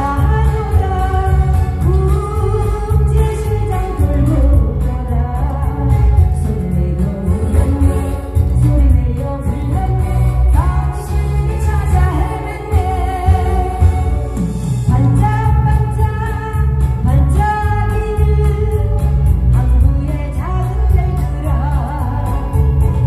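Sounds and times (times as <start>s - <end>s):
amplified backing music with beat: 0.0s - 23.0s
woman singing through microphone: 0.0s - 23.0s.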